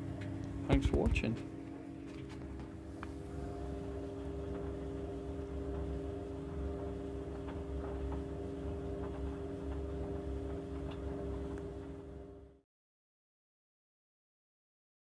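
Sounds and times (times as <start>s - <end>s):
tumble dryer running: 0.0s - 12.6s.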